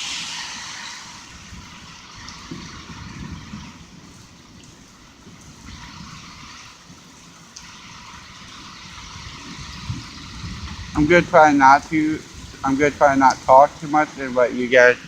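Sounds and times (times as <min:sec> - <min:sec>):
gusty wind rumbling: 0:00.0 - 0:15.0
heavy rain hissing: 0:00.0 - 0:15.0.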